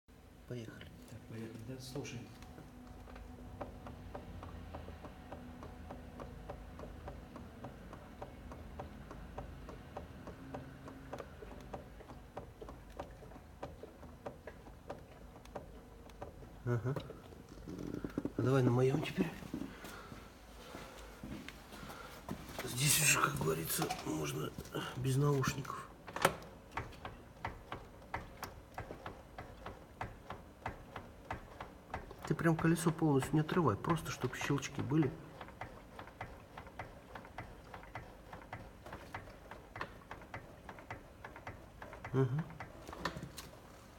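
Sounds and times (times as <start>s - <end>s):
light clicking knocks: 1.5s - 20.1s, 21.7s - 43.6s.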